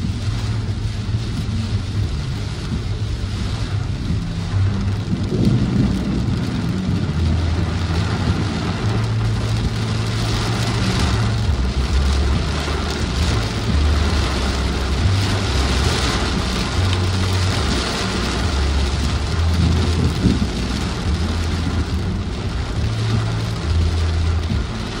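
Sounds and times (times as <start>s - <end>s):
heavy rain on car roof: 0.0s - 25.0s
low rumble: 0.0s - 25.0s.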